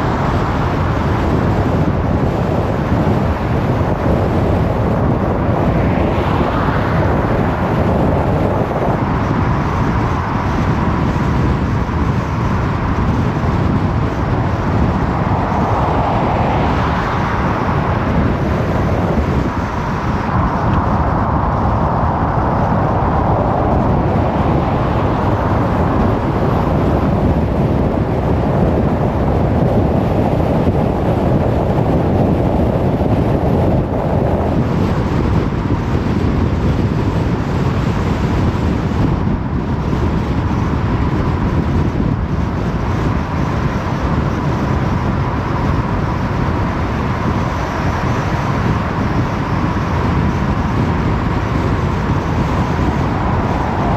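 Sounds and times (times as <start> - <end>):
car road and tyre noise: 0.0 - 53.9.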